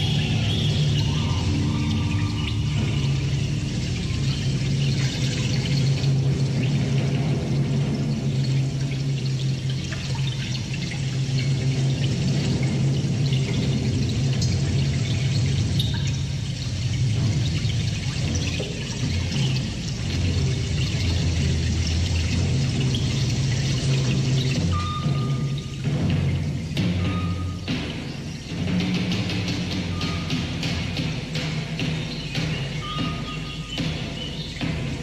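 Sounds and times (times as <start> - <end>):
steady low drone: 0.0 - 35.0.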